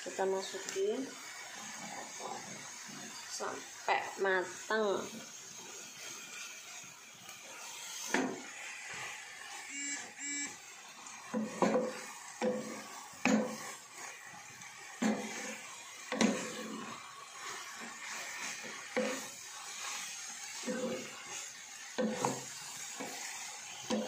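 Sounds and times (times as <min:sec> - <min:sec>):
wooden spatula scraping a wok: 0:00.0 - 0:09.7, 0:10.8 - 0:24.0
faint steady sizzle: 0:00.0 - 0:24.0.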